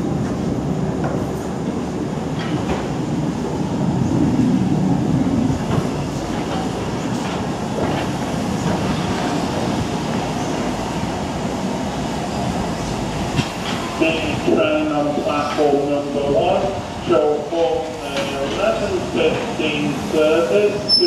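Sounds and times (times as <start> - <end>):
steam locomotive rumbling: 0.0 - 21.0.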